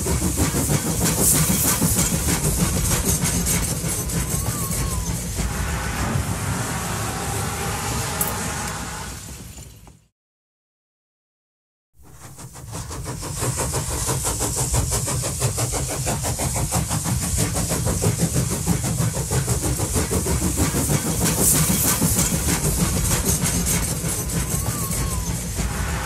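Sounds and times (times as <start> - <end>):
steam train chugging: 0.0 - 10.0, 12.0 - 26.0.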